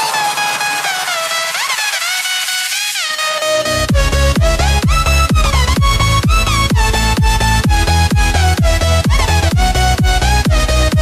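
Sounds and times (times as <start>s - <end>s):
synth melody with sliding notes: 0.0s - 11.0s.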